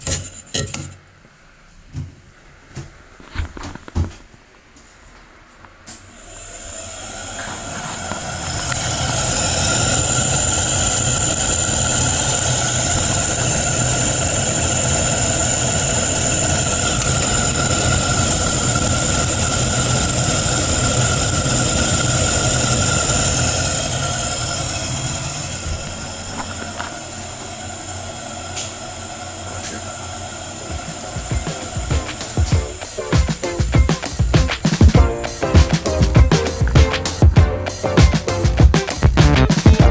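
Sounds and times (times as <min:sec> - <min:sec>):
ventilation fan high whine: 0:00.0 - 0:39.9
fan rattling rumble: 0:06.0 - 0:39.9.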